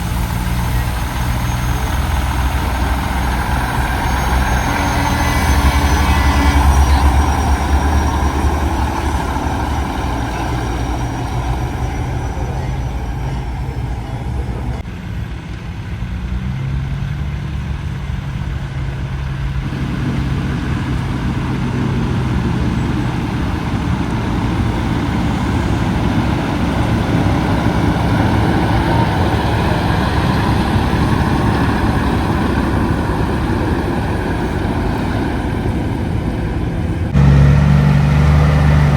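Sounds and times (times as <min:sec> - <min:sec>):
trucks driving past: 0:00.0 - 0:38.9.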